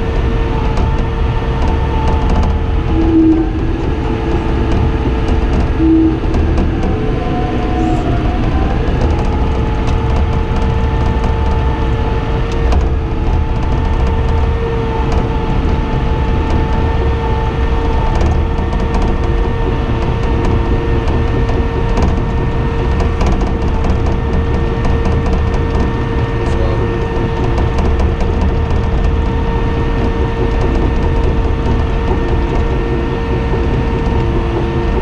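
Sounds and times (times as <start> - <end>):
diesel engine drone with whine: 0.0 - 35.0.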